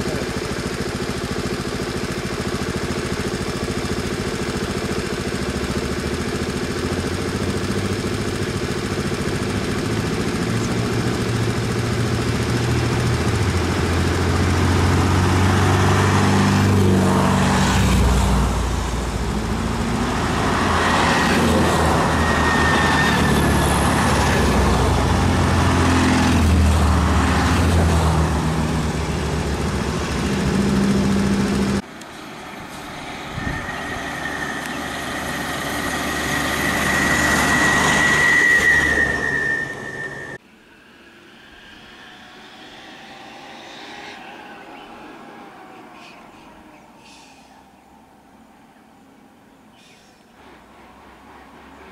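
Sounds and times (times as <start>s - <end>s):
car engines passing slowly: 0.0s - 51.9s.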